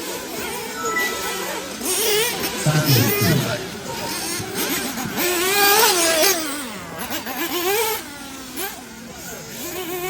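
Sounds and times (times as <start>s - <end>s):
nitro rc engine revving: 0.0s - 10.0s.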